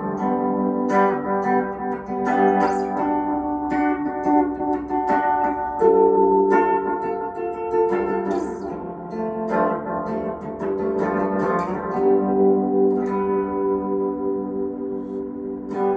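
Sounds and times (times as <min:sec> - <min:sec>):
electric guitar notes and chords: 0:00.0 - 0:15.9.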